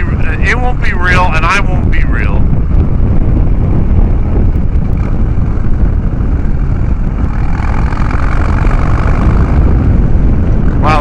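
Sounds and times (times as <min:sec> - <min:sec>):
higher hum: 0:00.0 - 0:11.0
motorcycle engine running: 0:00.0 - 0:11.0
wind rumble on microphone: 0:00.0 - 0:11.0.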